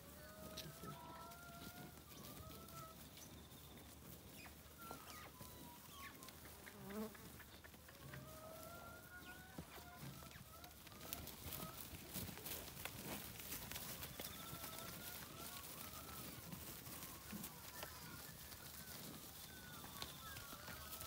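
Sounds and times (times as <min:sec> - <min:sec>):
cattle hooves on grass: 0:00.0 - 0:21.0.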